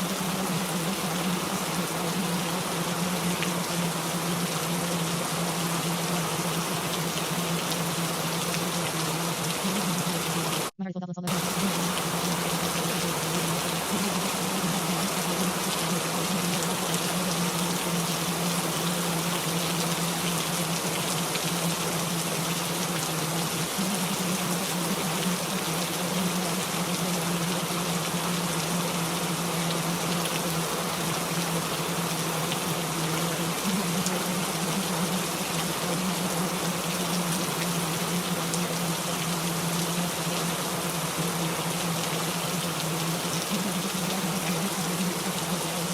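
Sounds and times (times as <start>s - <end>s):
rain falling: 0.0s - 10.7s, 11.3s - 45.9s.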